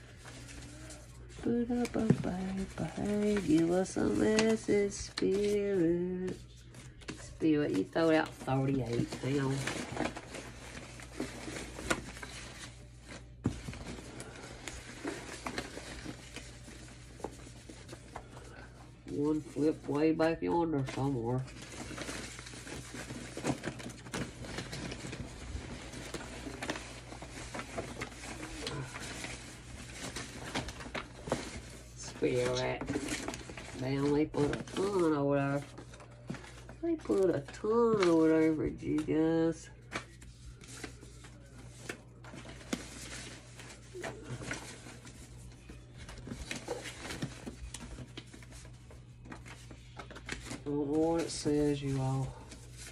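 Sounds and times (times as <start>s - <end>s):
paper slips rustling: 0.0s - 52.9s.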